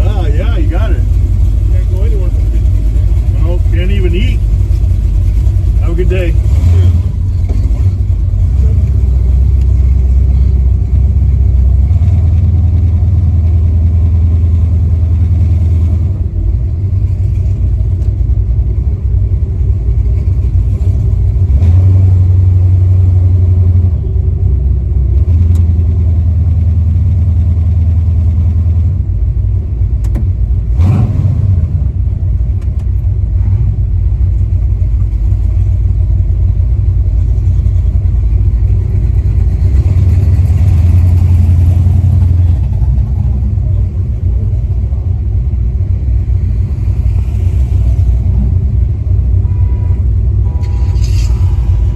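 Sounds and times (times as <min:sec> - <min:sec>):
pickup engine droning: 0:00.0 - 0:51.9.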